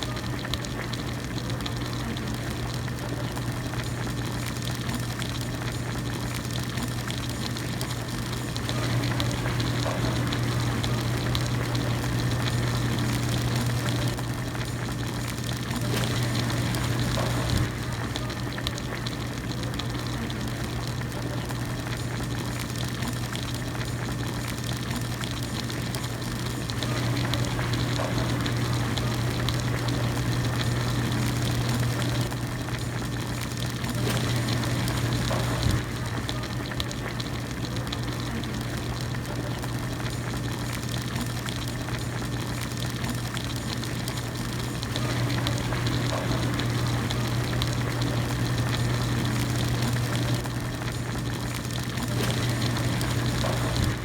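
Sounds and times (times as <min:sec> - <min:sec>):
broth bubbling at a boil: 0:00.0 - 0:54.0.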